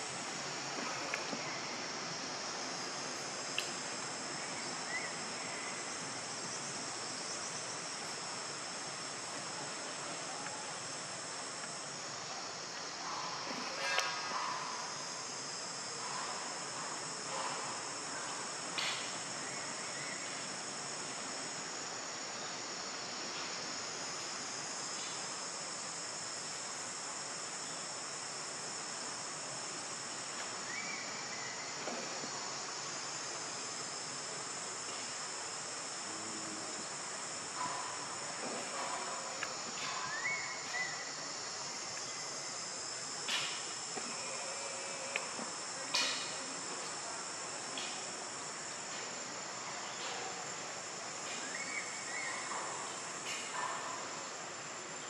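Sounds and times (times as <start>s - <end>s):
background hiss: 0.0s - 55.0s
high-pitched insect chorus: 0.0s - 55.0s.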